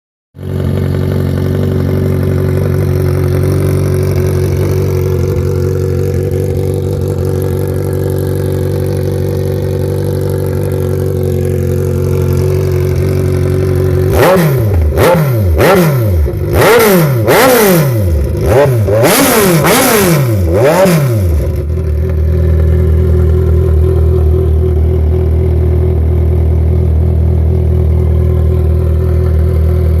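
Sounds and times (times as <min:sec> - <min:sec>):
loud motorcycle engine revving: 0:00.4 - 0:30.0.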